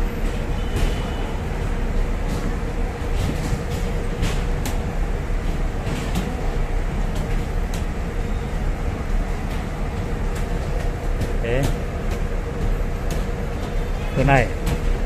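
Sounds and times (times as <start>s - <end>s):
bus station background rumble: 0.0s - 15.0s.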